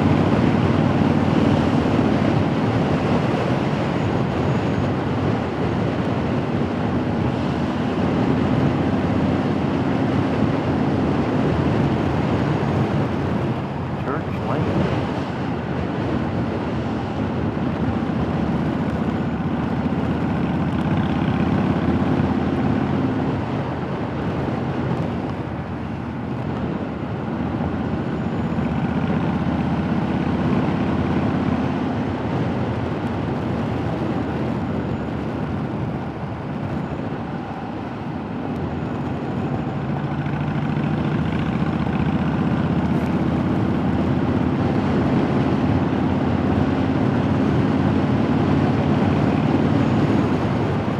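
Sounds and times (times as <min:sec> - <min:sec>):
motorcycle engine running: 0:00.0 - 0:50.9
road and wind noise: 0:00.0 - 0:50.9.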